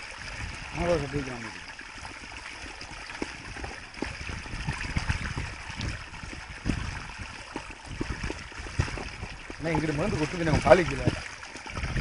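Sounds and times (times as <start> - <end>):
small water splashes: 0.0 - 12.0
water running through channel: 0.0 - 12.0.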